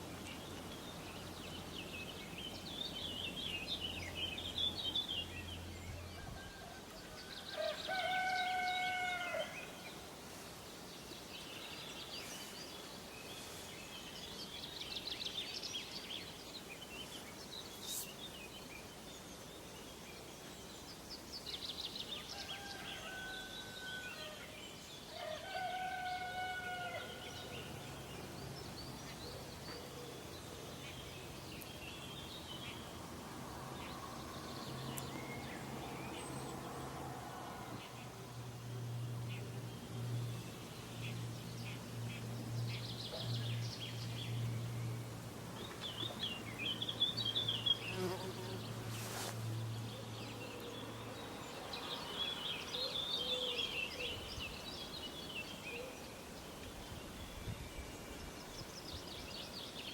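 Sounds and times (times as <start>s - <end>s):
outdoor background hiss: 0.0s - 59.9s.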